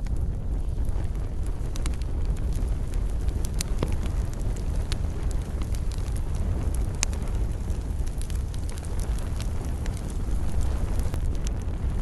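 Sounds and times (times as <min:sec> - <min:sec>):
campfire crackling and popping: 0:00.0 - 0:12.0
low rumble: 0:00.0 - 0:12.0.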